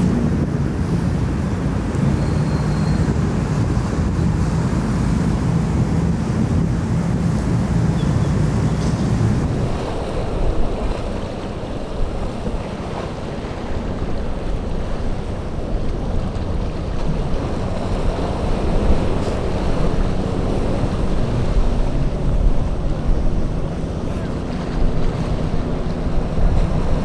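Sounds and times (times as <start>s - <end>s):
boat motors running: 0.0s - 27.0s
rough surf: 0.0s - 27.0s
wind rumbling on microphone: 0.0s - 27.0s.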